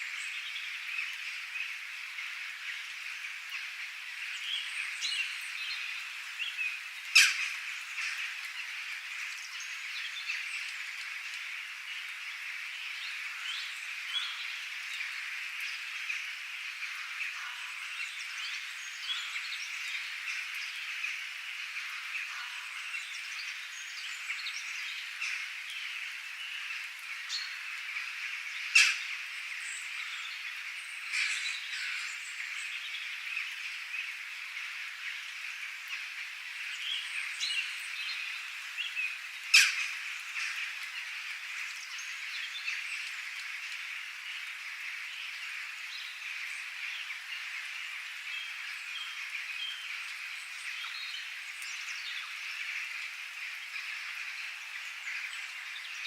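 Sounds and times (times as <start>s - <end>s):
birds chirping chorus: 0.0s - 56.0s.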